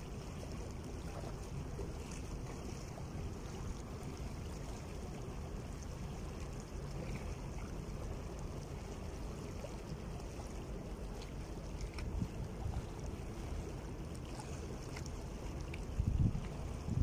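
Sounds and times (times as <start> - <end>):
small waves lapping over rocks: 0.0 - 17.0.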